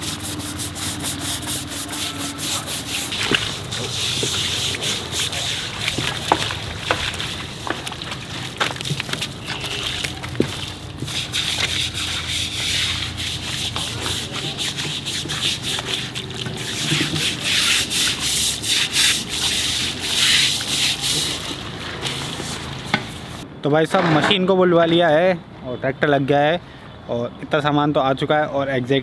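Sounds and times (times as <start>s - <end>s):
rough scraping strokes: 0.0s - 23.4s.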